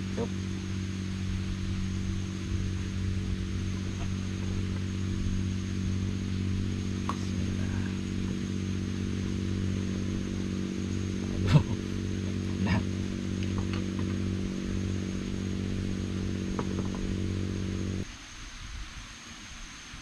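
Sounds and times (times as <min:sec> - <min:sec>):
small engine idling: 0:00.0 - 0:18.0.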